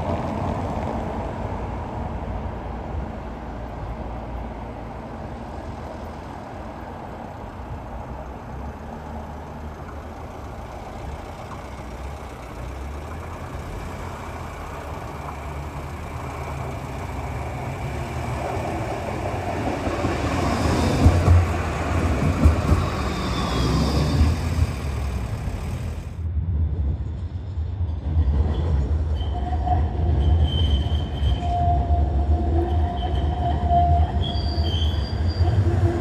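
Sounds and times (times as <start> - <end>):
tram rumbling on track: 0.0 - 36.0.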